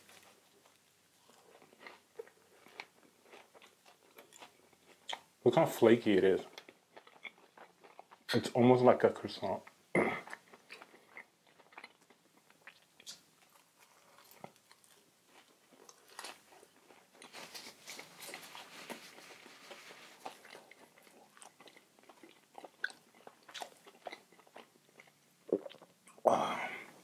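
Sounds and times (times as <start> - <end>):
crisp chewing crunches: 0.1 - 5.3, 6.1 - 8.5, 10.2 - 26.2.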